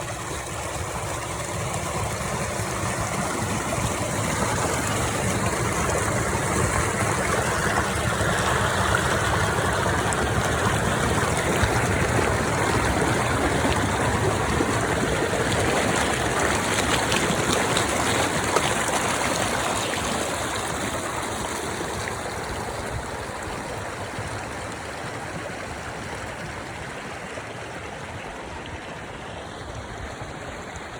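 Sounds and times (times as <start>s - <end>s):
running water rushing: 0.0s - 30.9s.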